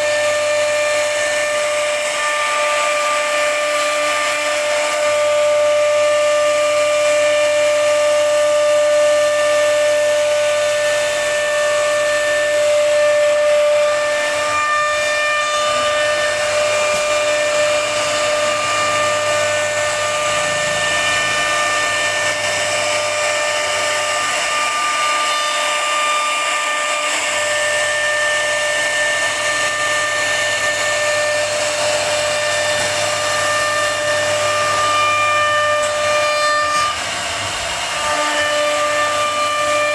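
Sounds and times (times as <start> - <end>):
router spindle whine: 0.0 - 39.9
wood being cut: 0.0 - 39.9.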